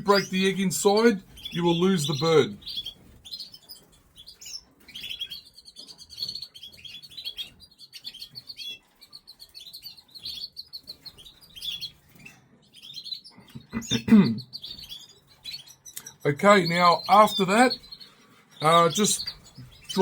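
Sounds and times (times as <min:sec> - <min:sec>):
canaries chirping and trilling: 0:00.0 - 0:20.0.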